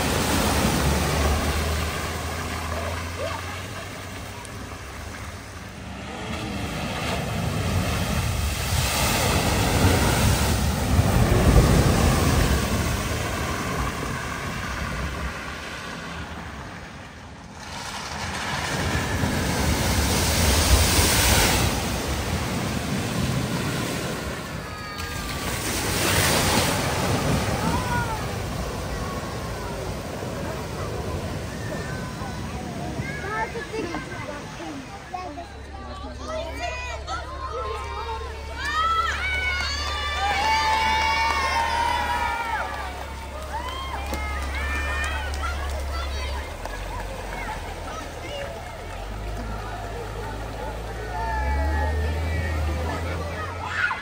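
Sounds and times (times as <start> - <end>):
vehicle engines: 0.0 - 54.0
water splashing around vehicles: 0.0 - 54.0.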